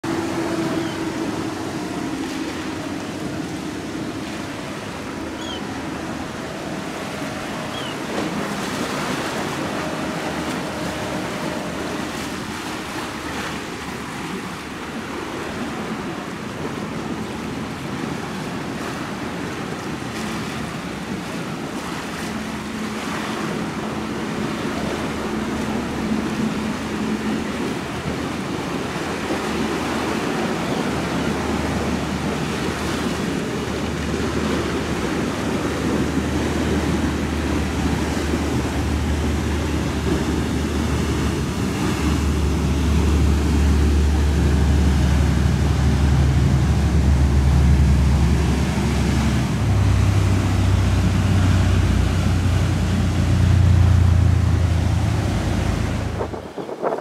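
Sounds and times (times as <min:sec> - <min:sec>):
boat engines droning: 0:00.0 - 0:57.0
surf: 0:00.0 - 0:57.0
wind: 0:00.0 - 0:57.0.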